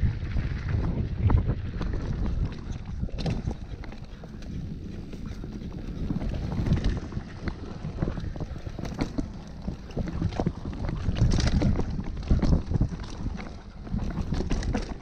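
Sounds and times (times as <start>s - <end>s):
bike rattling and knocking: 0.0s - 15.0s
tyres rumbling over dirt: 0.0s - 15.0s
wind buffeting microphone: 0.0s - 15.0s.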